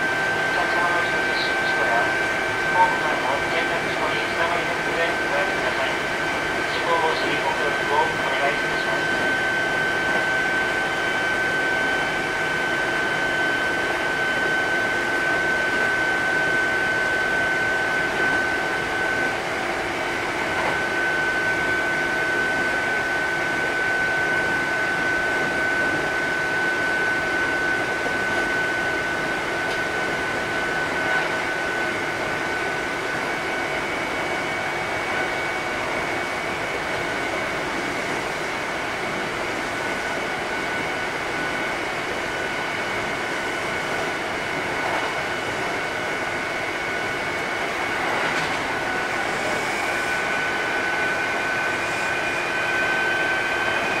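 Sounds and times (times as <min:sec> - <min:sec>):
electric train motor whine: 0:00.0 - 0:54.0
train running rumble: 0:00.0 - 0:54.0.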